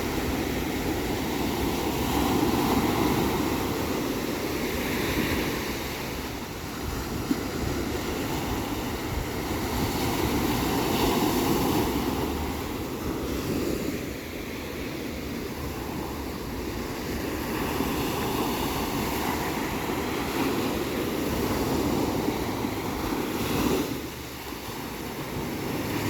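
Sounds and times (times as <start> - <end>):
ocean surf washing ashore: 0.0 - 26.0.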